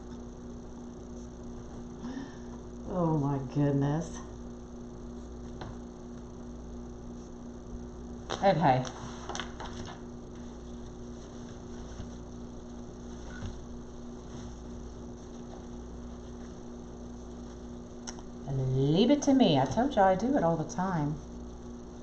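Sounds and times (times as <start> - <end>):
steady hum with held tones: 0.0 - 22.0.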